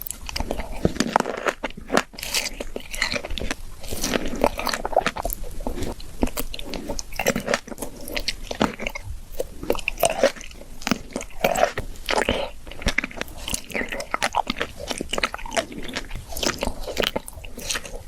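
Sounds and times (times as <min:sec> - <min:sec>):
biting fruit: 0:00.0 - 0:18.0
wet chewing: 0:00.0 - 0:18.0.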